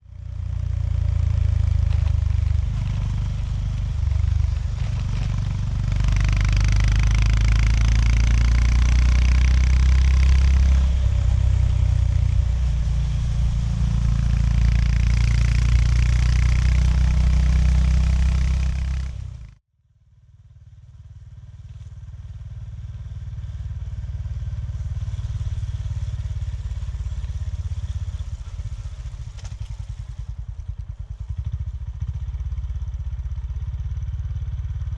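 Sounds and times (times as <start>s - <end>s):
motorcycle engine revving: 0.0s - 19.6s, 20.4s - 34.9s.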